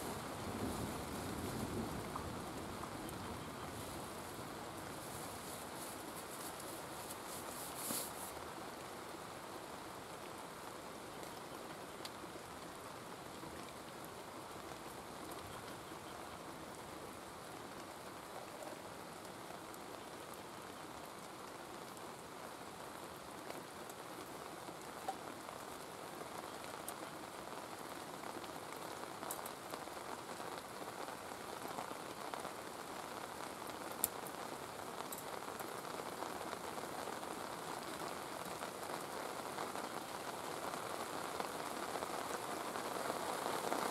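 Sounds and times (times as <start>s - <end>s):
rain falling on a surface: 0.0s - 43.9s.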